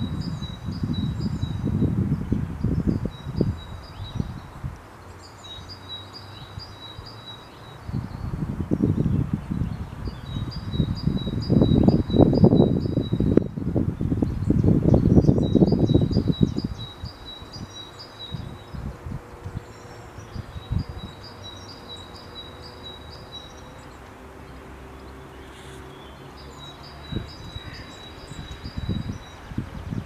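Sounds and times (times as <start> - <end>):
wind buffeting microphone: 0.0 - 7.1, 7.7 - 30.0
songbird singing high chirps: 0.0 - 30.0.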